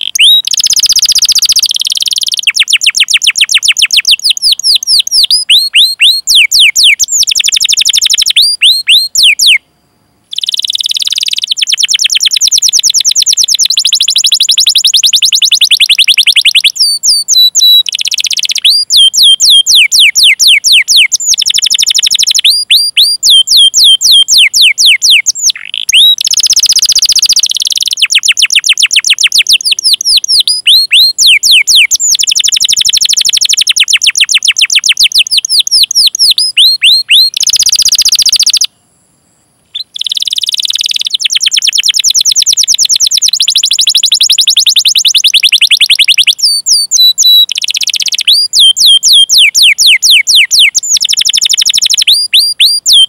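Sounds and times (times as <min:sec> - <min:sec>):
canary singing: 0:00.0 - 0:09.6, 0:10.3 - 0:38.7, 0:39.7 - 0:53.0.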